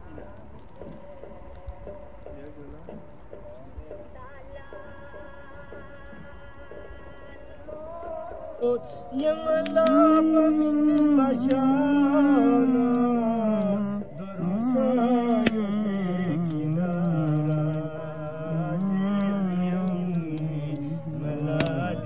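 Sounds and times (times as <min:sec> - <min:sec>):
person singing slow melismatic song: 0:04.0 - 0:22.0.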